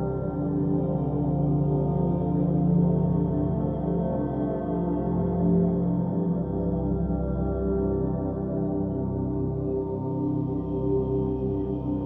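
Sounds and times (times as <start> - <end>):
ambient music low tones: 0.0 - 12.0.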